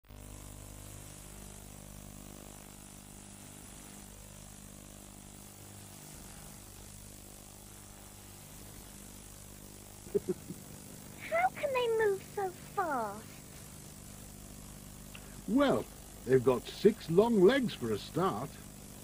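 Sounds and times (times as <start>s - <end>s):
low hum with hiss: 0.1s - 19.0s.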